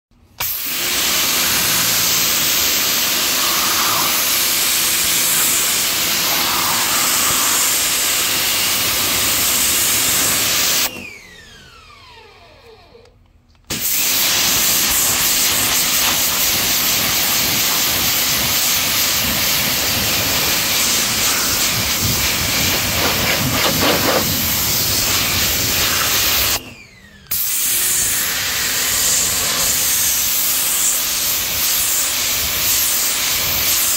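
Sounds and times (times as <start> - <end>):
pressure washer spraying water: 0.4 - 10.9, 13.7 - 26.6, 27.3 - 33.9.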